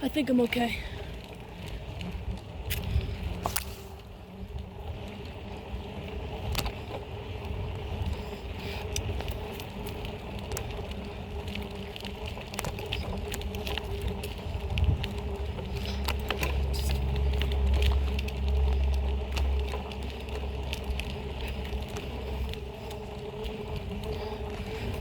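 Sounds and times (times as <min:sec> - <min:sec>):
bike clicks and rattles: 0:00.0 - 0:25.0
wind and tyre rumble: 0:00.0 - 0:25.0.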